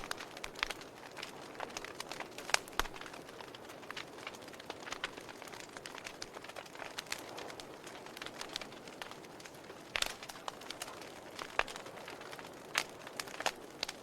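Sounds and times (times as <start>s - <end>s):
soft fire hiss: 0.0s - 14.0s
wood fire crackling and popping: 0.0s - 14.0s.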